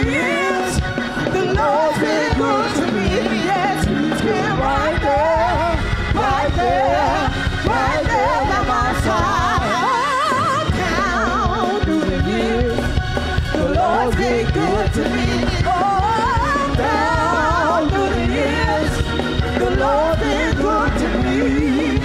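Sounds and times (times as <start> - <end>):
woman singing gospel song: 0.0 - 12.9, 13.5 - 22.0
instrumental backing: 0.0 - 22.0.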